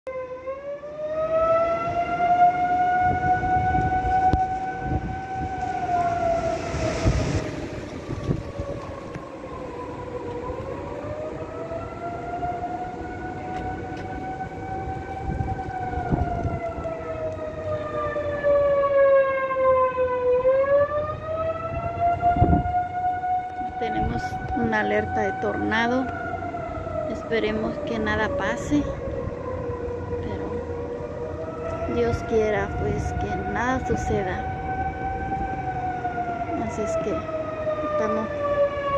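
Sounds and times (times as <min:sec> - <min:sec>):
warning siren wailing: 0:00.1 - 0:38.9
wind gusts on microphone: 0:01.2 - 0:38.9.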